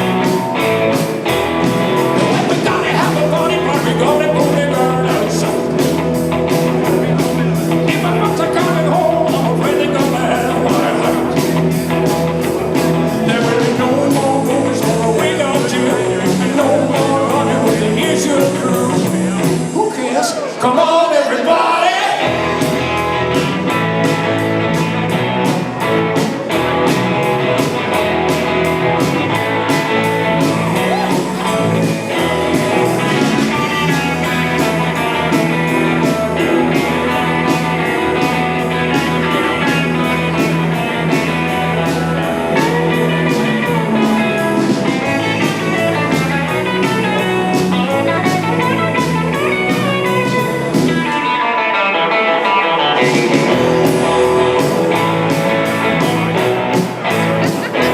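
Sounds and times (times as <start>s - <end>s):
drums steady beat: 0.0s - 20.6s, 22.1s - 51.4s, 53.0s - 57.9s
electric guitar: 0.0s - 20.9s, 21.5s - 57.9s
rock and roll band playing: 0.0s - 57.9s.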